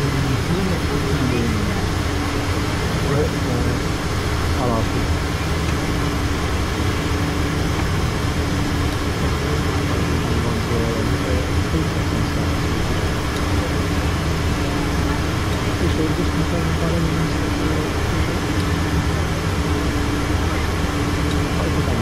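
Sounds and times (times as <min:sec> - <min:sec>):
aircraft cockpit engine hum: 0:00.0 - 0:22.0.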